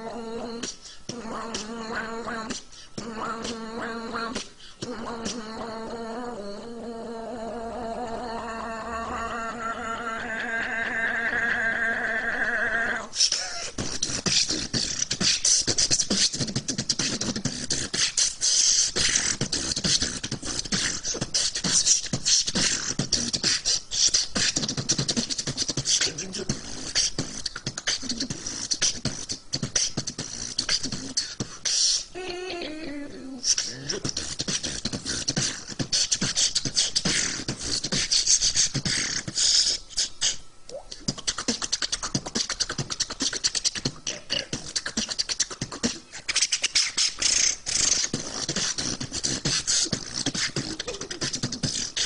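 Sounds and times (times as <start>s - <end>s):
vocal sound gliding downward: 0.0s - 21.8s, 22.5s - 52.0s
person beatboxing: 0.0s - 52.0s.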